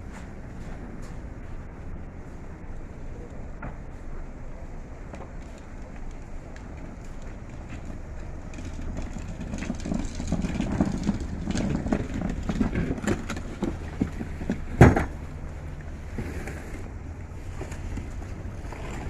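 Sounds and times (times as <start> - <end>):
low steady street rumble: 0.0 - 19.0.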